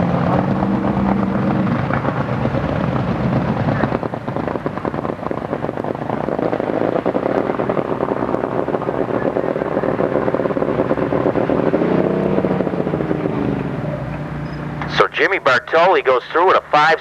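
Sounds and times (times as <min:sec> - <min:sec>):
bending pitched tone: 0:00.0 - 0:17.0
pulsing engine drone: 0:00.0 - 0:17.0.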